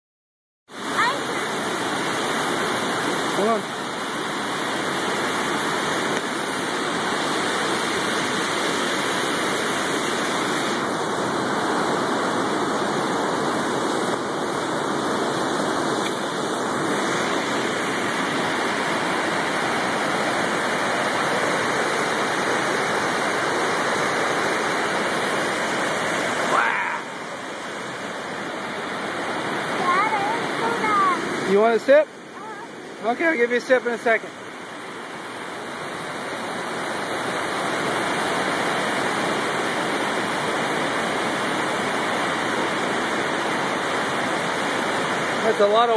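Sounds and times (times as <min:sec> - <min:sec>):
water rushing from dam outlets: 0:00.7 - 0:45.9.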